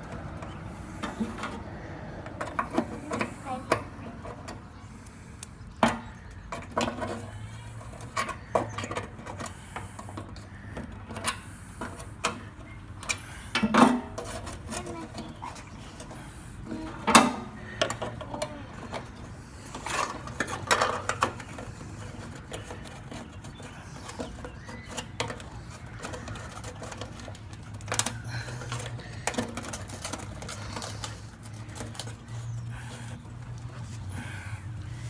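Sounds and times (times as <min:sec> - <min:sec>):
clicks and knocks of parts: 0:00.0 - 0:34.1.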